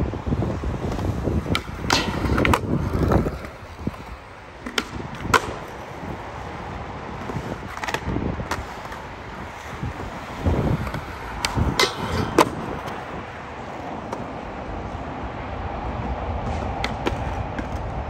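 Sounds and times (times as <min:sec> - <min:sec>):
skateboard wheels rolling on concrete: 0:00.0 - 0:18.0
skateboard clacking: 0:00.5 - 0:15.0, 0:16.0 - 0:18.0.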